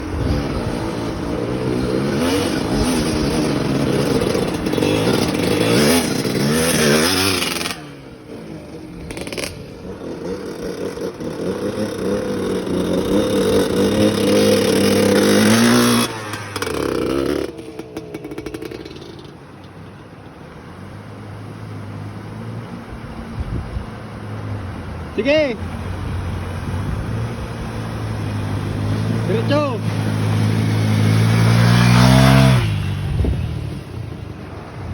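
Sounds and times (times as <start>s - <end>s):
dirt bike engines revving: 0.0s - 22.8s, 25.1s - 34.9s.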